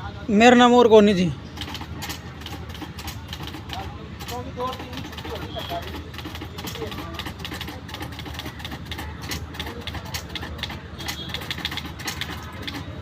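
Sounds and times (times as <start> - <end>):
manual typewriter clatter: 1.5 - 13.0.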